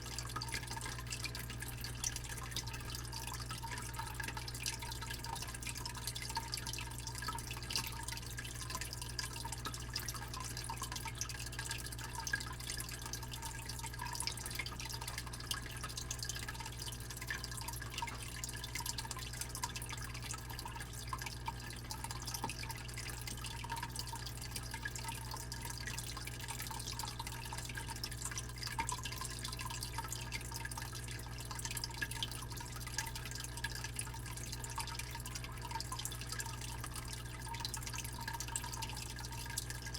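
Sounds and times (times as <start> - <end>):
fish tank pump humming: 0.0 - 39.9
water trickling and dripping: 0.0 - 39.9.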